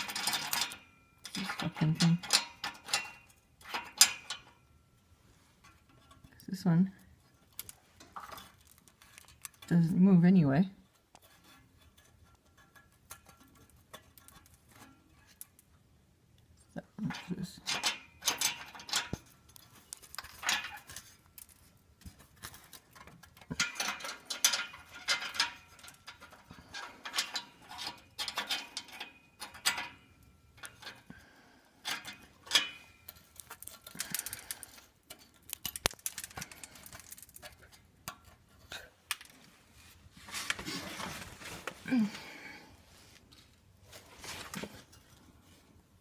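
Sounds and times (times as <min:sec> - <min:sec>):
metal springs clinking and scraping: 0:00.0 - 0:04.7, 0:05.4 - 0:09.9, 0:10.9 - 0:15.8, 0:17.0 - 0:45.6.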